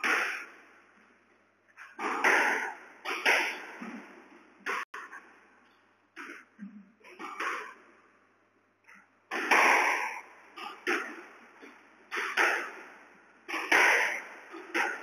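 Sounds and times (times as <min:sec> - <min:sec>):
squash ball hitting rackets and walls: 0:00.0 - 0:01.0, 0:01.7 - 0:05.3, 0:06.2 - 0:07.9, 0:08.8 - 0:15.0.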